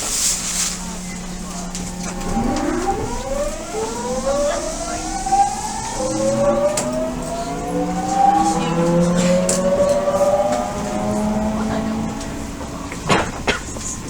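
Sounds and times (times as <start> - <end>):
rail running noise: 0.0 - 14.0
train motors whining: 0.0 - 14.0.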